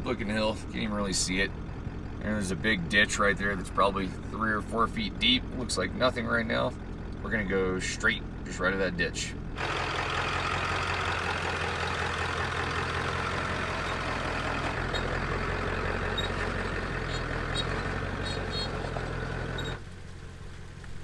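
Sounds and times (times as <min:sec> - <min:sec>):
diesel truck engine running low: 0:00.0 - 0:21.0.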